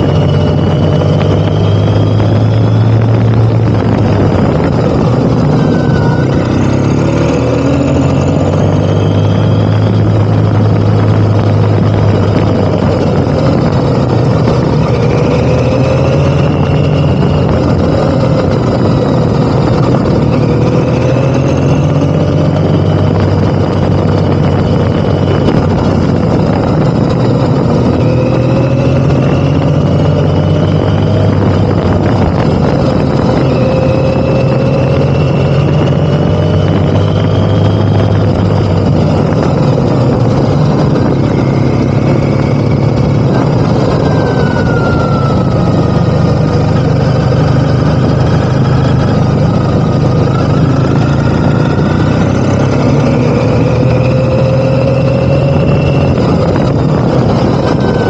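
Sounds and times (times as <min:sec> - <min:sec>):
motorcycle engine accelerating: 0:00.0 - 0:58.0
wind rushing: 0:00.0 - 0:58.0.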